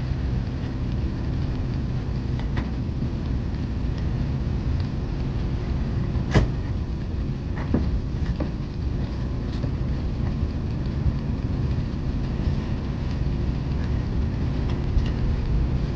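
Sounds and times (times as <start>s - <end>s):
airliner cabin rumble: 0.0s - 15.9s.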